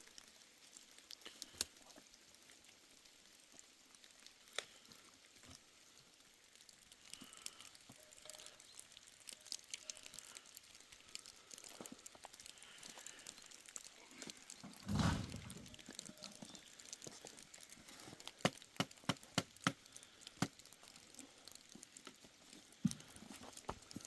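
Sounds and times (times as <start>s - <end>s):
low steady hiss: 0.0s - 24.0s.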